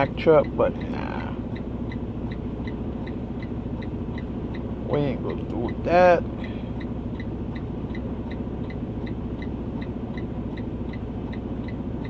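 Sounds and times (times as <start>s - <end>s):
light even ticking: 0.0s - 12.0s
vehicle engine and road rumble: 0.0s - 12.0s.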